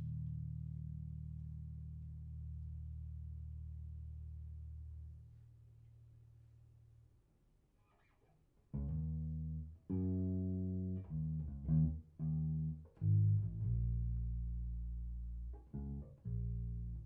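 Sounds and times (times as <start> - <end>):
bass guitar notes: 0.0 - 5.4, 8.7 - 17.0.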